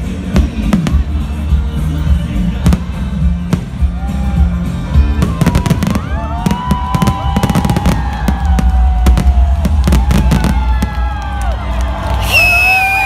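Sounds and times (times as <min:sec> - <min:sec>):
loud music with heavy bass: 0:00.0 - 0:10.5
fireworks bursting and crackling: 0:00.0 - 0:13.0.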